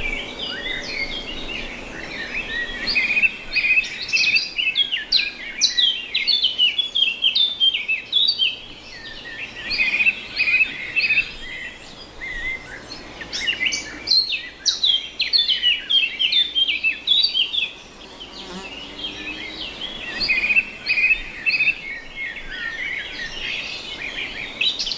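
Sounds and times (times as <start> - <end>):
songbirds chirping and trilling: 0.0 - 24.9.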